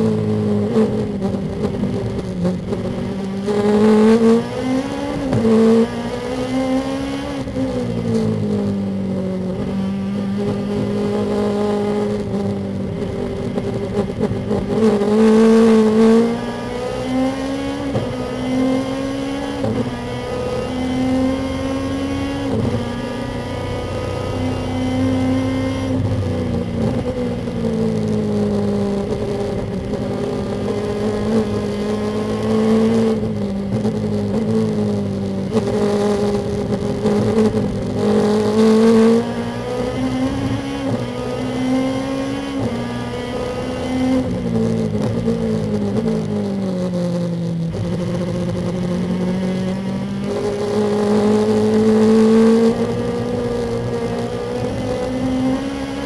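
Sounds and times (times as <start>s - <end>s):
race car engine under load: 0.0s - 56.0s.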